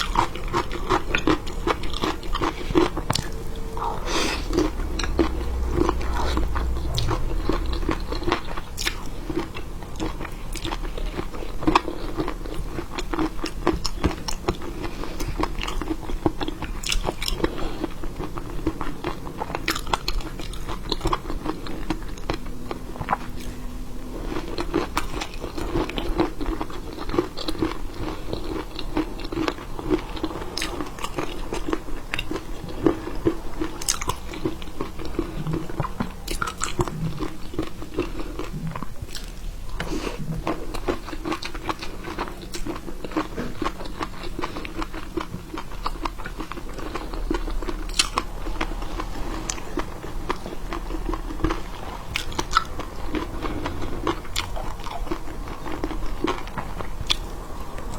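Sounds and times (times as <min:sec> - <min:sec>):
chewing and crunching seafood: 0:00.0 - 0:57.9.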